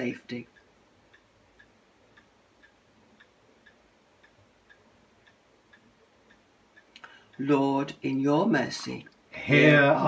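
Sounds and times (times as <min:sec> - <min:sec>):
clock ticking faintly: 0:00.0 - 0:10.0.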